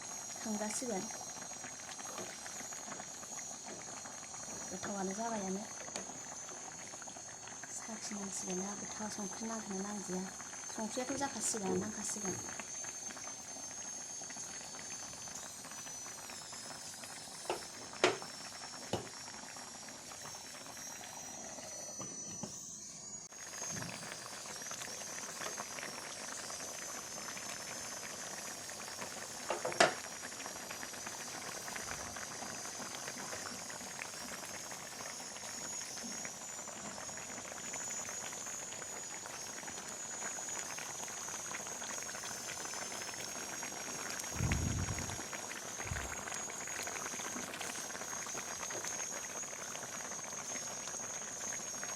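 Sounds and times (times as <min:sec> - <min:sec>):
curry boiling in a pot: 0:00.0 - 0:51.9.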